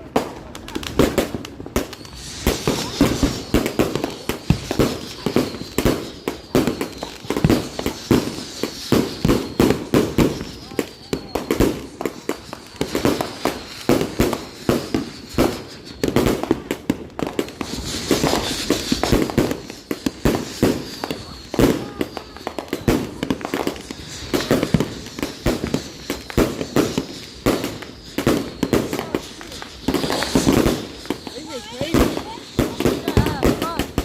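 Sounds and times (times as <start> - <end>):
firework bangs and crackles: 0.0 - 34.0
firework whistles falling in pitch: 0.1 - 34.0.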